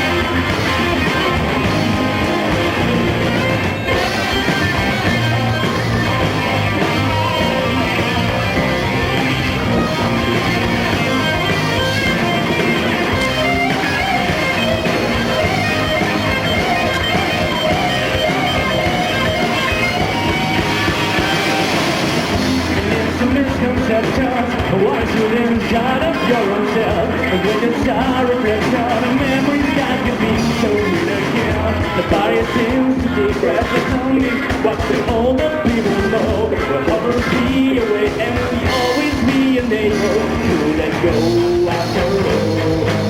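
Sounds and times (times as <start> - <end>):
electric guitar: 0.0 - 43.0
rock band playing live: 0.0 - 43.0.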